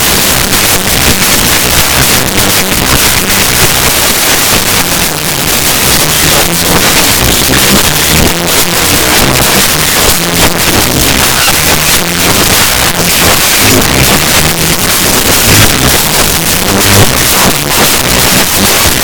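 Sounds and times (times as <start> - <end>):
distorted bass-boosted music: 0.0 - 19.0.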